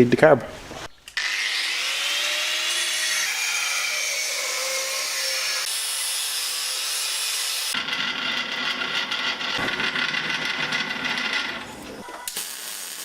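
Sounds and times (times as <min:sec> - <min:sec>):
power tool whirring: 0:01.2 - 0:13.0.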